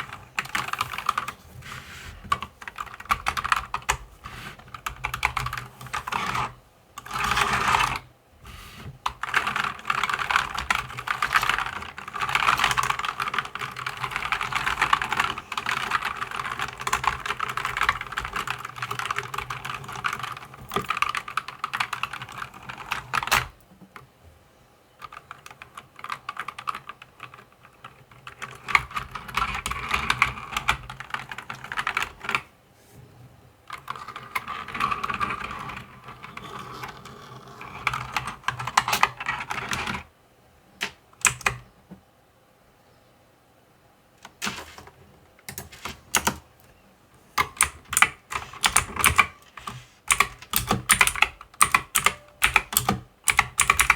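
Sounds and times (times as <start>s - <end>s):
mechanical keyboard typing: 0.0s - 1.4s, 2.3s - 8.1s, 9.0s - 23.6s, 25.0s - 32.5s, 33.7s - 40.1s, 40.8s - 41.6s, 45.4s - 46.5s, 47.4s - 53.9s.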